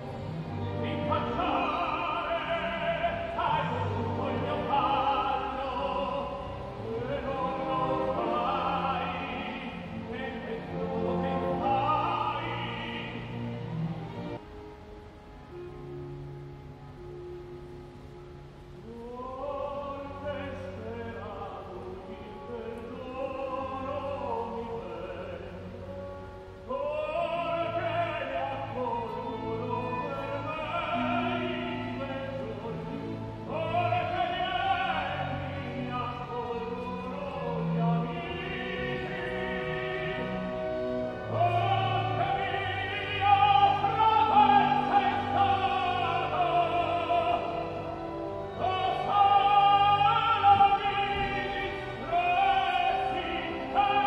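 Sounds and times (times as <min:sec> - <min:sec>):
opera singing: 0:00.0 - 0:14.3, 0:18.8 - 0:54.0
orchestra playing: 0:00.0 - 0:54.0.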